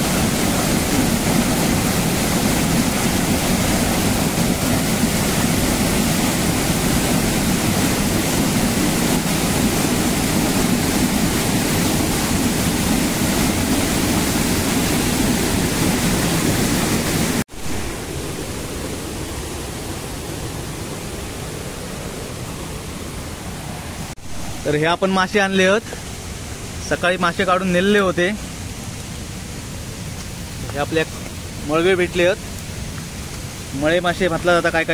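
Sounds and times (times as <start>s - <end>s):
waterfall rushing water: 0.0s - 34.9s.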